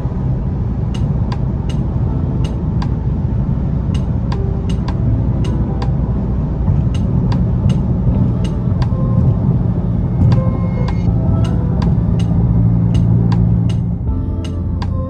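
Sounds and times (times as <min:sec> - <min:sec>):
engine and road noise rumble: 0:00.0 - 0:15.0.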